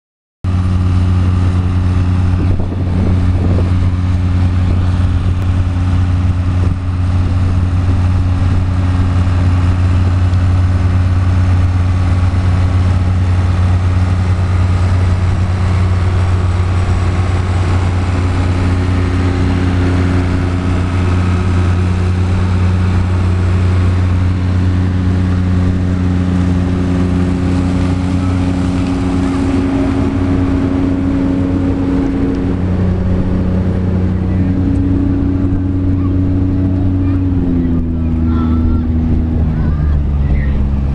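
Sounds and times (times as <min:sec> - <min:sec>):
tractor engines under load: 0:00.5 - 0:40.9.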